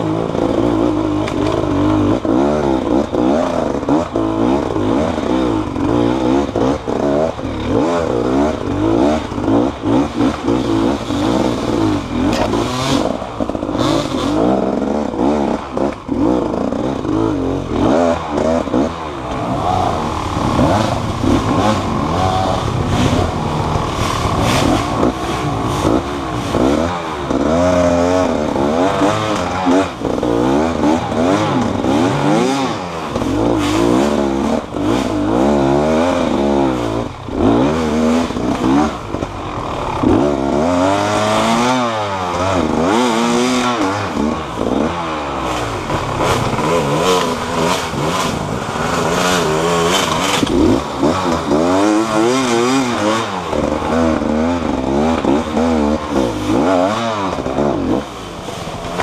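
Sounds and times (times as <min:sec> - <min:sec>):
clatter and scraping: 0:00.0 - 0:59.0
motorcycle engine revving: 0:00.0 - 0:59.0.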